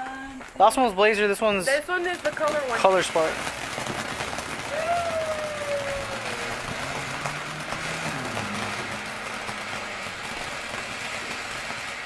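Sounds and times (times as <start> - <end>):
firework spraying sparks hissing: 0.1 - 12.0.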